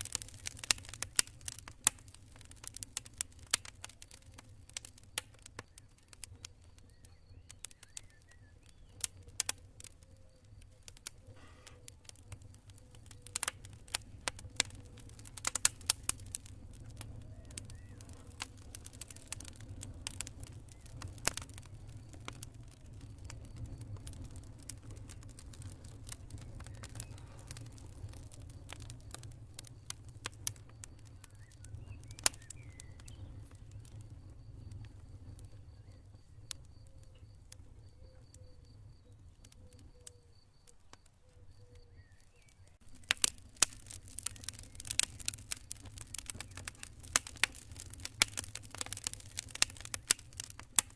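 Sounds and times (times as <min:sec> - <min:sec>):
burning wood crackling and popping: 0:00.0 - 0:50.9
campfire flames rumbling: 0:00.0 - 0:50.9
insects chirping: 0:04.2 - 0:50.9.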